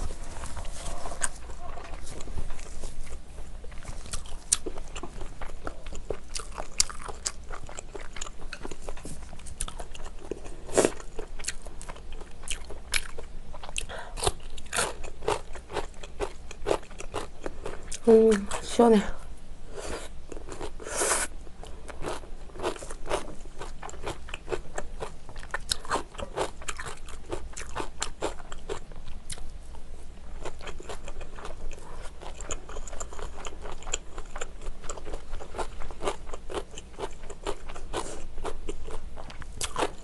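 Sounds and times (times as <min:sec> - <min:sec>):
person chewing food: 0:00.0 - 0:18.6, 0:19.8 - 0:40.0.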